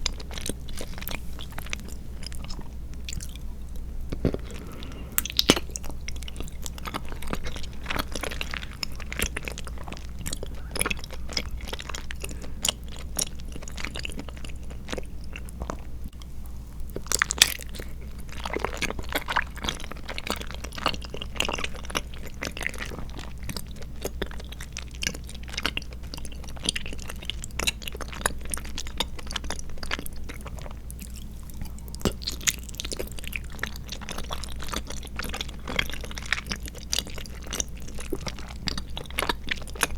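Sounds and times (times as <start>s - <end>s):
wet chewing clicks: 0.0s - 15.9s, 16.9s - 39.9s.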